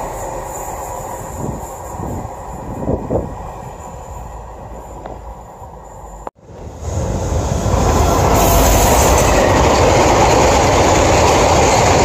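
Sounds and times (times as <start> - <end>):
freight train rumble: 0.0 - 12.0.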